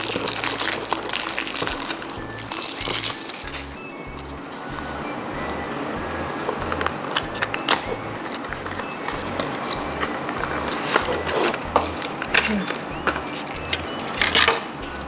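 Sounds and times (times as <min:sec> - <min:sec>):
background music with low beat: 0:00.0 - 0:15.0.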